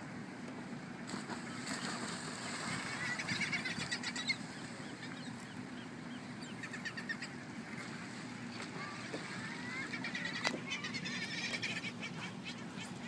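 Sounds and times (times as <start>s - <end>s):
water and wind wash: 0.0s - 13.0s
seabirds calling: 0.9s - 13.0s.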